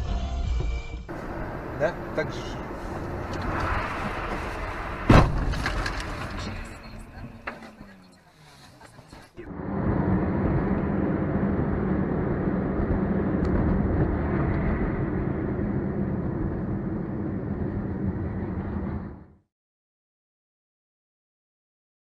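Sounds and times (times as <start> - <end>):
low hum: 0.0 - 19.4
car engine and road noise: 0.0 - 19.5.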